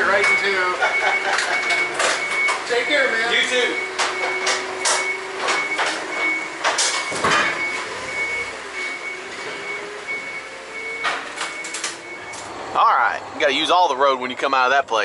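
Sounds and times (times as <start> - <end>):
forklift backup alarm beeping: 0.0 - 12.6.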